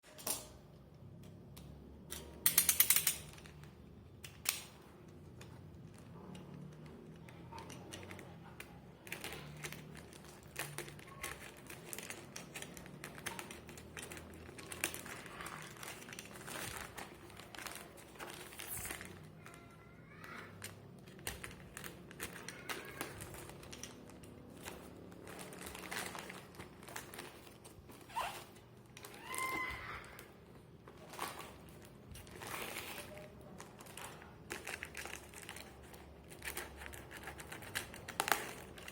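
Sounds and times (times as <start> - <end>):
packaging crinkling and rustling: 4.6 - 38.9.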